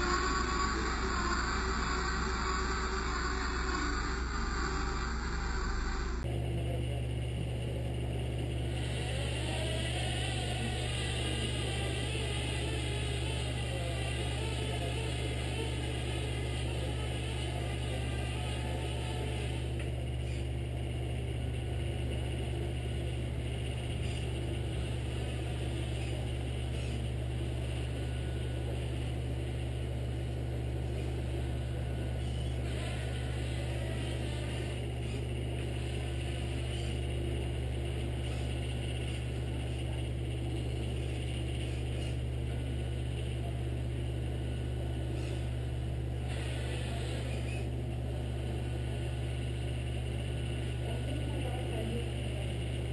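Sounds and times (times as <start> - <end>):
toy truck engine drone: 0.0 - 52.9.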